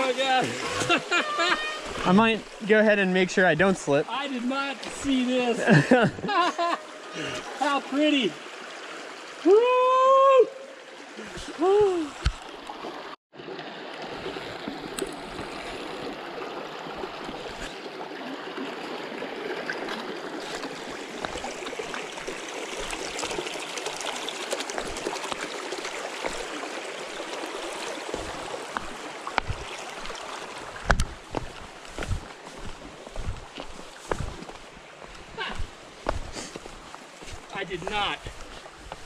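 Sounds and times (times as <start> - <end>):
creek water rushing: 0.0 - 39.0.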